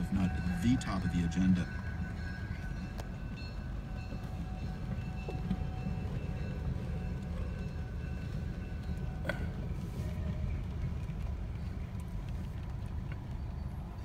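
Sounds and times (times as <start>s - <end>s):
train wagons rumbling on rails: 0.0s - 14.0s.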